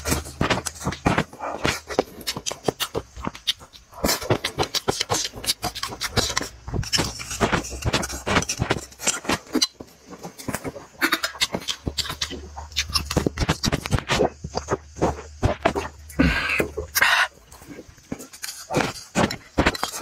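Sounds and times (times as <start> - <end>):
wet smacking and chewing: 0.0 - 20.0.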